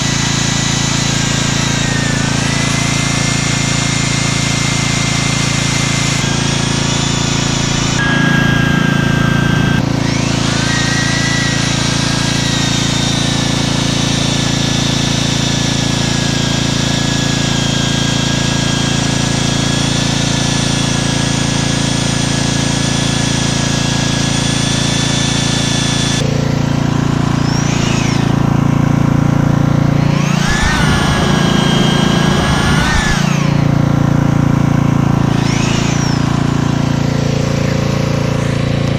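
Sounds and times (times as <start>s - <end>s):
core drill boring concrete: 0.0s - 38.9s.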